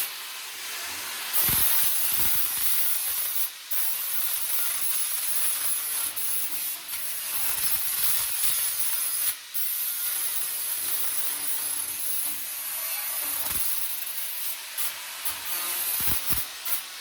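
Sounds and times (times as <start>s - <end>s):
power tool grinding sheet metal: 0.0s - 17.0s.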